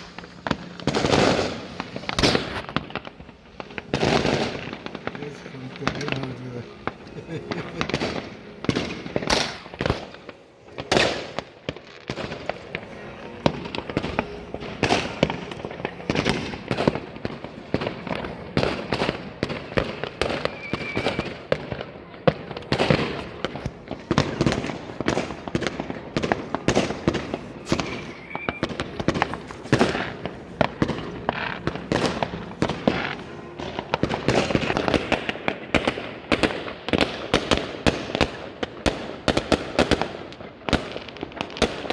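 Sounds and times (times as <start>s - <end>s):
fireworks and firecrackers banging: 0.0s - 41.9s.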